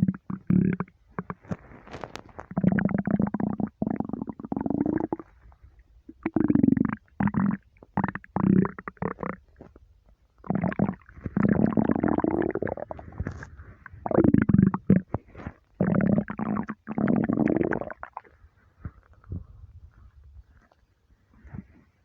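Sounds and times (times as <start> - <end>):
stomach rumbling: 0.0 - 22.0.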